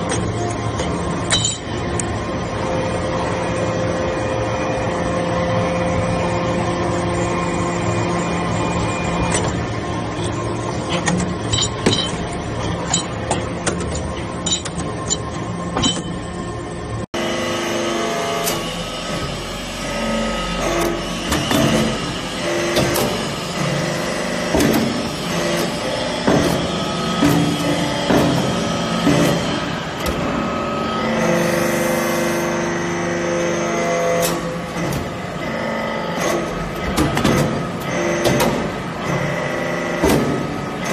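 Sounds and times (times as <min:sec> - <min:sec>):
hydraulic press humming: 0:00.0 - 0:40.9.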